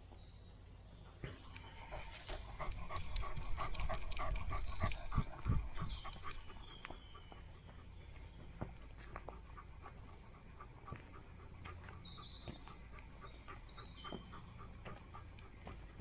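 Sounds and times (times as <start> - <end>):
dog panting: 0.9 - 16.0.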